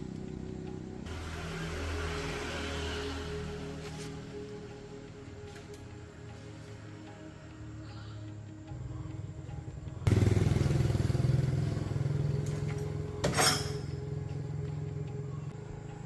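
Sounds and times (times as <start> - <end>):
car engine starting and running: 0.0 - 7.3, 9.4 - 15.6
background music: 0.0 - 16.0.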